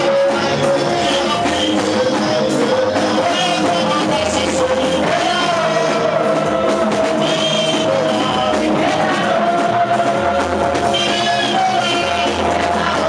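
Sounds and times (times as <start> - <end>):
live church band with singing: 0.0 - 13.0.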